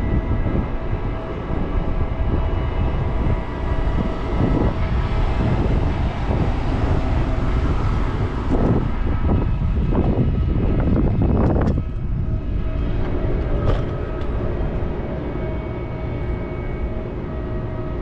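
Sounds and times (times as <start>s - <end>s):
wind and road noise on microphone: 0.0s - 18.0s.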